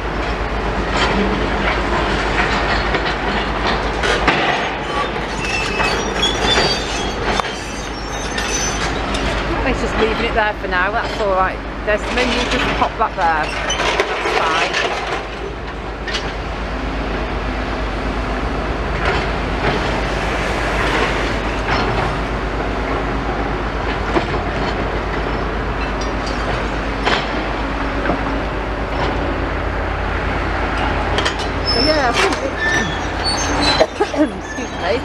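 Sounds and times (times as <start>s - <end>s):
excavator engines running: 0.0s - 35.0s.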